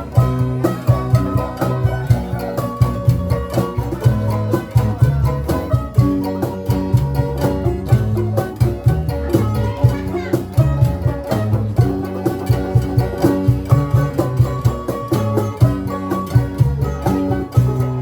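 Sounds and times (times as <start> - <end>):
plucked bass notes: 0.0 - 18.0
plucked string ensemble melody: 0.0 - 18.0.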